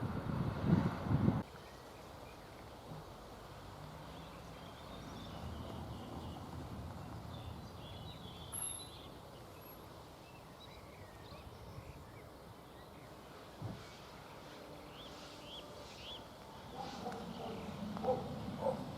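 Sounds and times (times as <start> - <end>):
birds chirping: 1.4 - 18.9.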